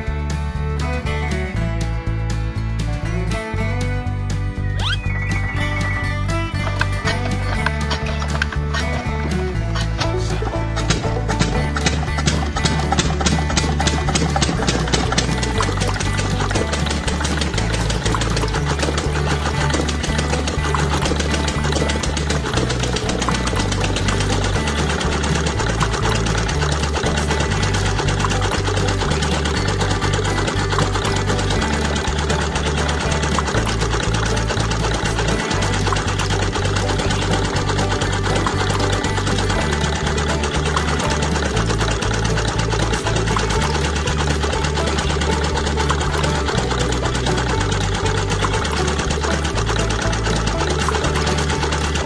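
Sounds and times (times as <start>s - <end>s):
small machine clattering: 4.8s - 52.0s.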